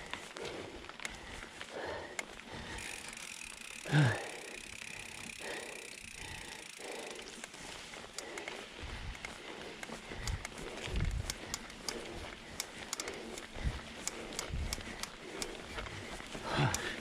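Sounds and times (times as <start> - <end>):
bike rattles and clicks: 0.0 - 17.0
bike tyres on dirt trail: 0.0 - 17.0.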